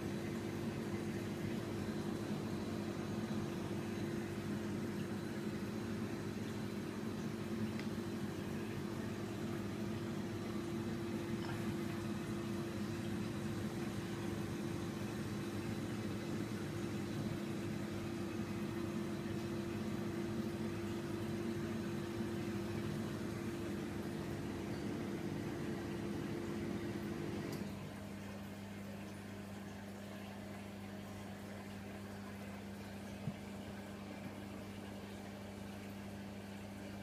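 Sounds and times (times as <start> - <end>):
aquarium pumps humming: 0.0 - 37.0
faint moving water: 0.1 - 37.0.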